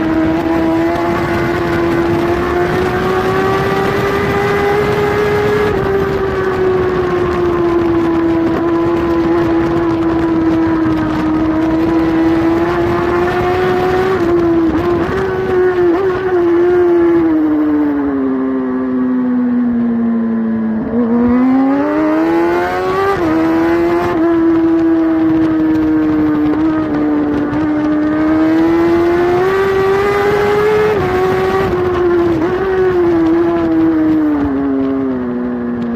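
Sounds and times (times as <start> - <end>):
wind rushing: 0.0 - 18.0, 20.9 - 34.8
motorcycle engine at high revs: 0.0 - 35.9.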